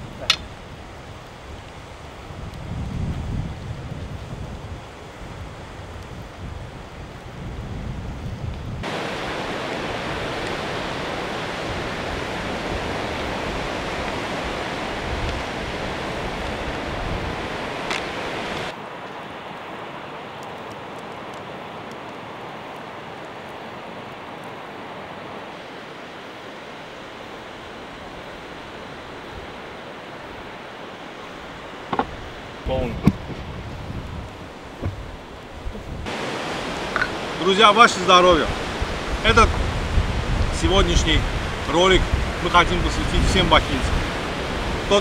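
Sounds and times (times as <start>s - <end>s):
surf washing on shore: 0.0s - 45.0s
wind rumbling on microphone: 0.0s - 45.0s.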